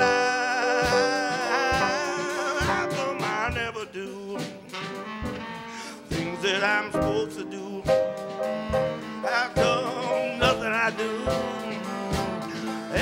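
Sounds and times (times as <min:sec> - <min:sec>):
keyboard chords: 0:00.0 - 0:13.0
saxophone holding notes: 0:00.0 - 0:13.0
steady drum beat: 0:00.0 - 0:13.0.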